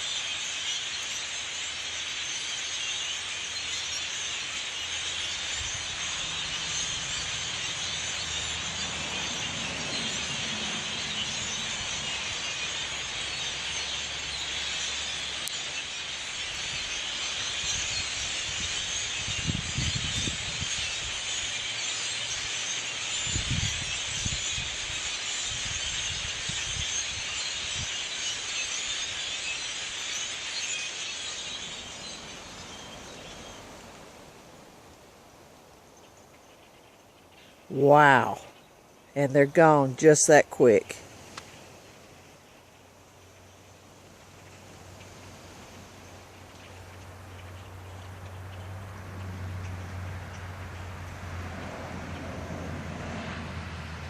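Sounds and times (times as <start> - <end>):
flock of blackbirds chattering: 0.0 - 52.6.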